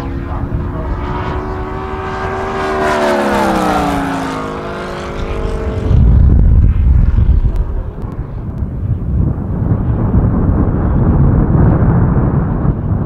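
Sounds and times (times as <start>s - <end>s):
model plane engine passing: 0.0s - 12.7s
wind on microphone: 0.0s - 13.0s.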